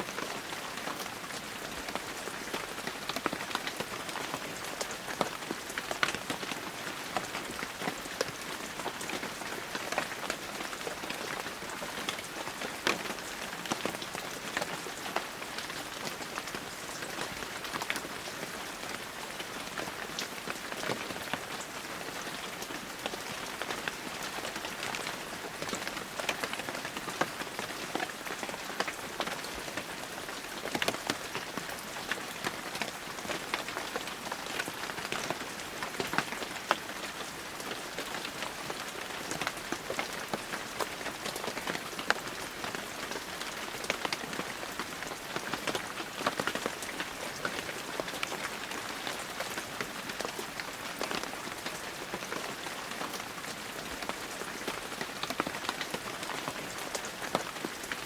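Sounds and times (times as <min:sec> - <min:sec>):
heavy rain: 0:00.0 - 0:58.0
raindrops ticking on surfaces: 0:00.0 - 0:58.0.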